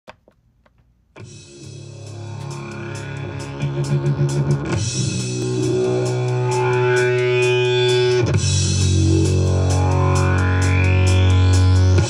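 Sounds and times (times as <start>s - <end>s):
bass: 0.1s - 12.0s
electric guitar chords: 1.2s - 12.0s.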